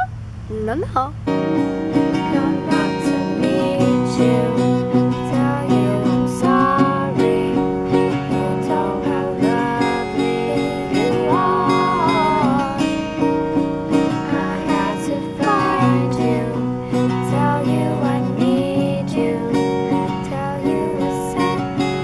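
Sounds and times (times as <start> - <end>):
acoustic guitar strumming: 0.0 - 22.0
girl singing: 2.0 - 22.0.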